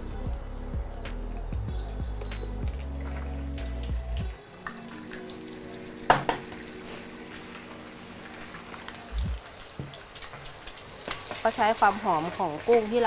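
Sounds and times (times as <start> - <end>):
eggs sizzling in hot oil: 0.0 - 13.0.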